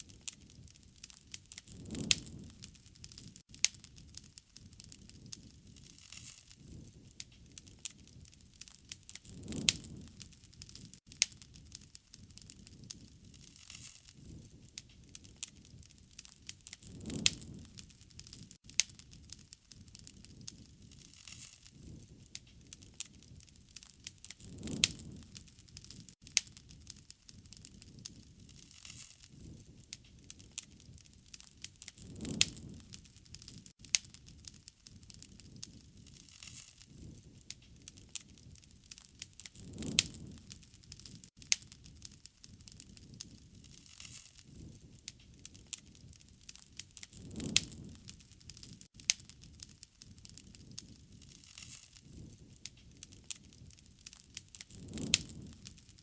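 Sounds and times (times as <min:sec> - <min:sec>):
low whoosh of flame: 0:00.0 - 0:56.0
wood fire crackling: 0:00.0 - 0:56.0.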